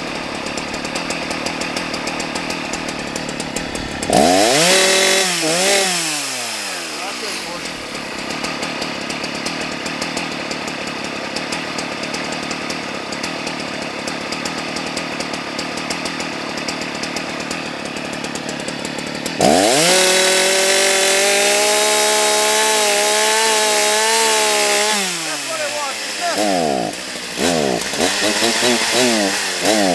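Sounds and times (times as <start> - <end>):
chainsaw cutting log: 0.0 - 29.9.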